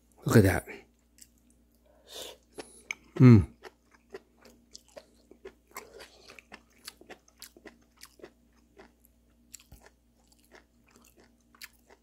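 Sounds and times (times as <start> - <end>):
person chewing: 1.0 - 12.0.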